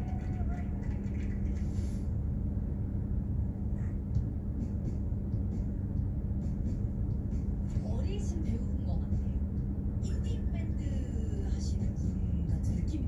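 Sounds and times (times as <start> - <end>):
ship engine rumble: 0.0 - 13.0.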